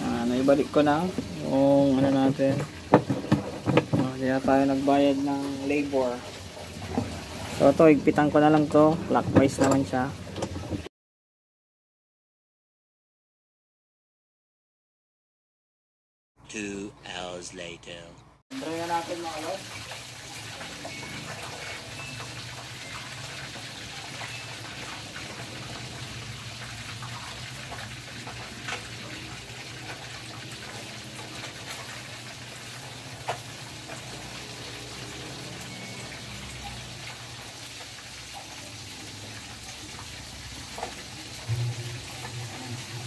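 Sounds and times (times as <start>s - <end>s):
water pouring into washing machine: 0.0s - 10.8s, 18.6s - 43.0s
washing machine hum: 0.0s - 10.9s, 18.5s - 43.0s.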